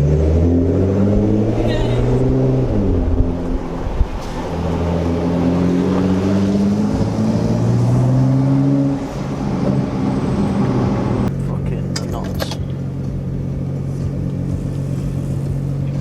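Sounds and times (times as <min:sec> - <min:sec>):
car exhaust note: 0:00.0 - 0:16.0.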